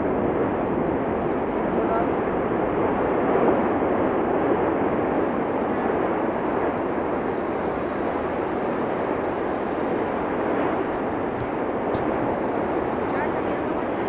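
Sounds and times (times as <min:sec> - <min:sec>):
volcano eruption roar: 0:00.0 - 0:14.0.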